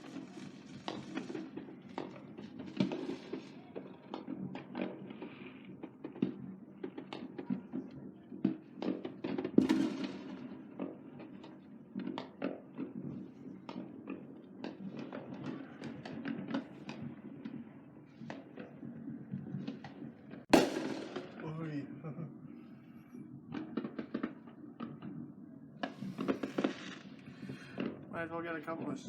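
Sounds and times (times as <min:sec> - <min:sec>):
fireworks popping and banging: 0:00.0 - 0:29.0.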